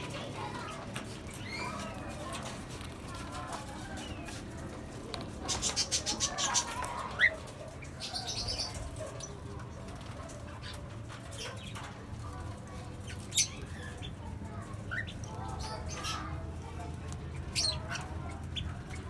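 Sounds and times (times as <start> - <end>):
parrots chirping and chattering: 0.0 - 19.0.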